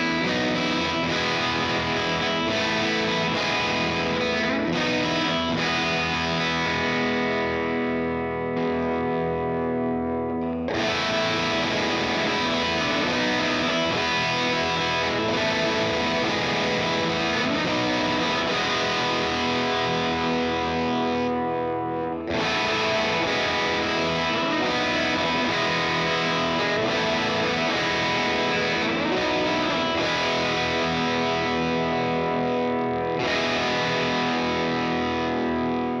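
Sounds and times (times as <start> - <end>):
distorted electric guitar: 0.0 - 36.0.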